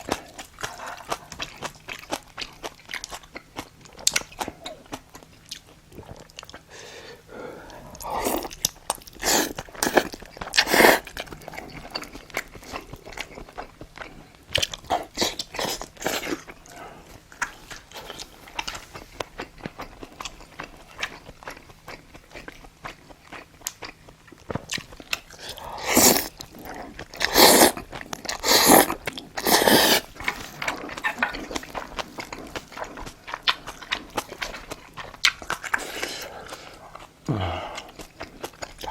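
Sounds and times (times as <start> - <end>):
close chewing and crunching: 0.0 - 38.9.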